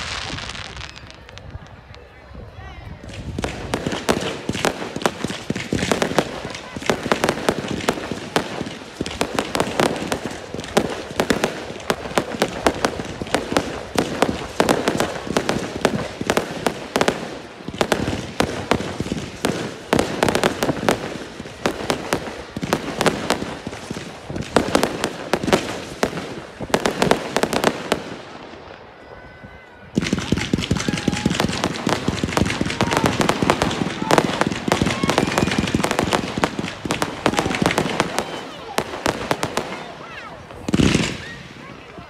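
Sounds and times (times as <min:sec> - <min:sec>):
firework barrage bangs and crackles: 0:00.0 - 0:42.0.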